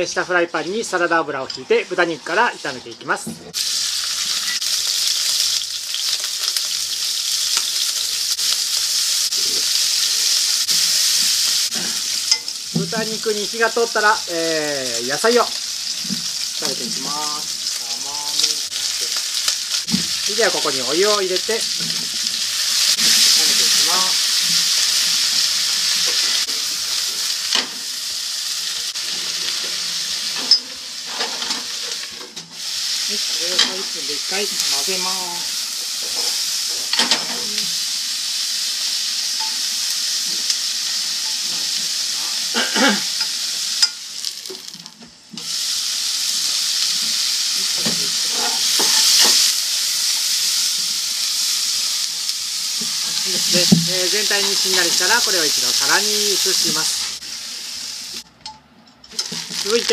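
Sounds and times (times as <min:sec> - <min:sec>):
meat sizzling in oil: 0:03.5 - 0:58.3, 0:59.1 - 0:59.9.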